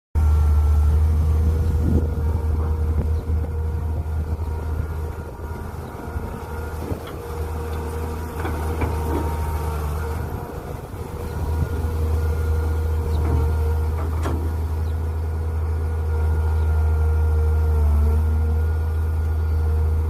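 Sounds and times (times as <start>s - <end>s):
excavator engine under load: 0.2s - 20.0s
hydraulic whine: 0.2s - 20.0s.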